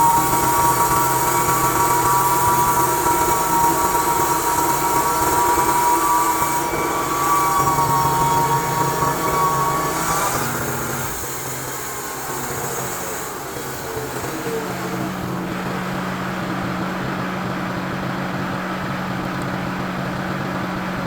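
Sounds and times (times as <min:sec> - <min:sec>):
sawmill cutting boards: 0:00.0 - 0:21.0.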